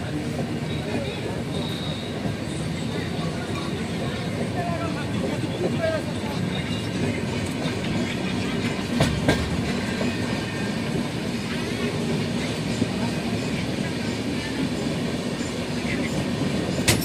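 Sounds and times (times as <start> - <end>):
train running noise from inside: 0.0 - 17.0.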